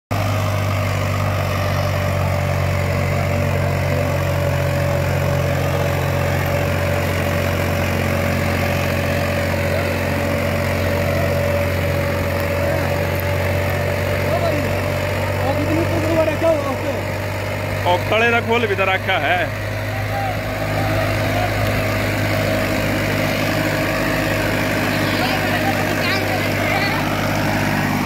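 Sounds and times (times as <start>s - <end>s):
tractor diesel engine under load: 0.1s - 28.0s.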